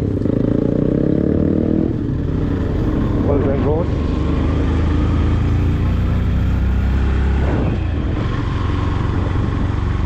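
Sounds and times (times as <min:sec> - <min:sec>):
motorcycle engine humming: 0:00.0 - 0:10.0
road and wind noise: 0:00.0 - 0:10.0.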